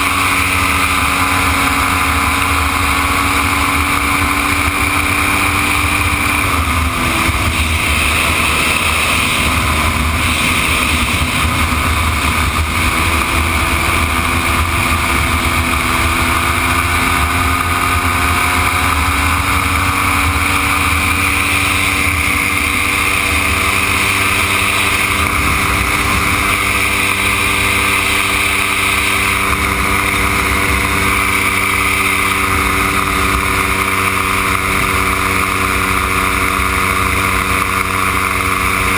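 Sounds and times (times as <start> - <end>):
aircraft engine running: 0.0 - 38.9
wind rush on microphone: 0.0 - 38.9.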